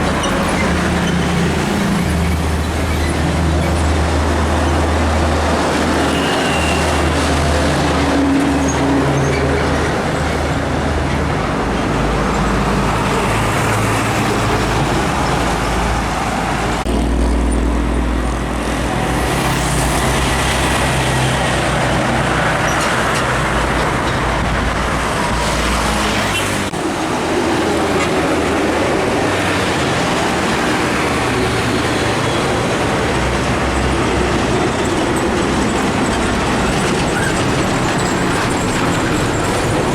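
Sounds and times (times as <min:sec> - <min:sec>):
large trucks passing close: 0:00.0 - 0:39.9.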